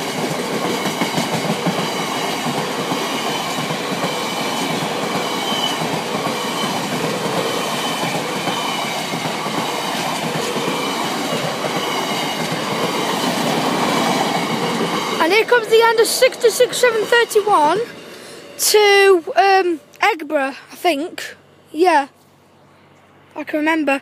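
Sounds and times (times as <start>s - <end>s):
freight train wheels on rails: 0.0s - 20.3s.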